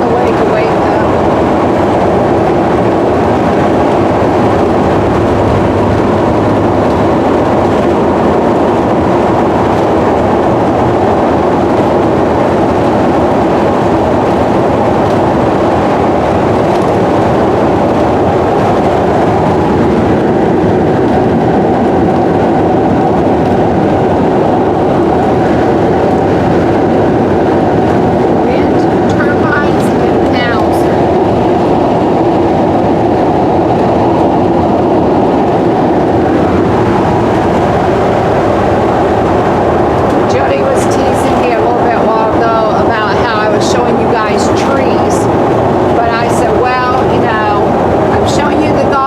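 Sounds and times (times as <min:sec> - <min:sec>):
vehicle road noise from inside: 0:00.0 - 0:48.9.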